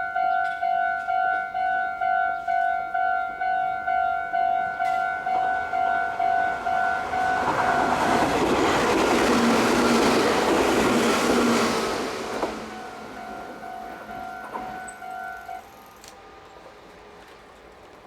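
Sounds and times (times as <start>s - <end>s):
level crossing warning bell: 0.0s - 10.2s, 11.0s - 16.7s
train passing: 0.0s - 18.0s.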